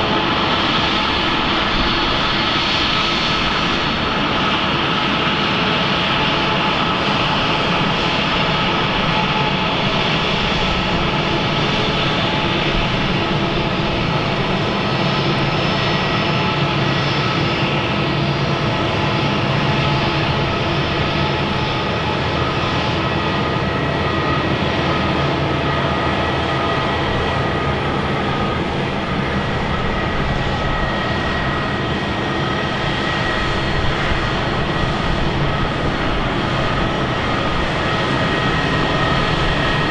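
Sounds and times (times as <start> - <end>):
jet engine whining tones: 0.0 - 39.9
jet engines roaring: 0.0 - 39.9.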